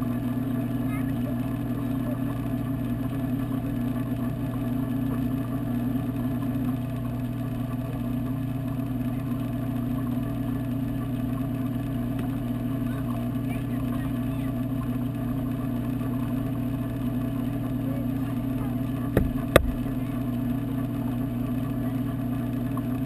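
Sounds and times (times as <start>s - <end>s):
aquarium pumps humming underwater: 0.0s - 23.0s.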